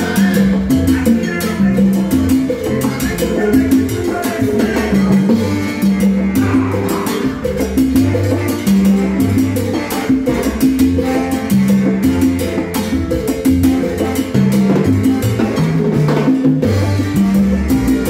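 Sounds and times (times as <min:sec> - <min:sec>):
congas and drums: 0:00.0 - 0:18.0
salsa band playing: 0:00.0 - 0:18.0
sustained bass notes: 0:00.0 - 0:18.0.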